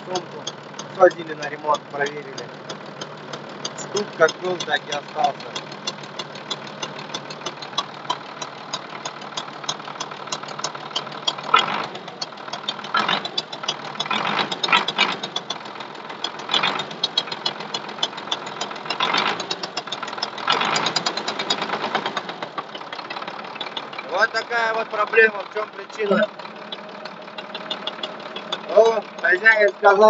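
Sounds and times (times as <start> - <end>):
diesel tractor engine knocking: 0.0 - 30.0.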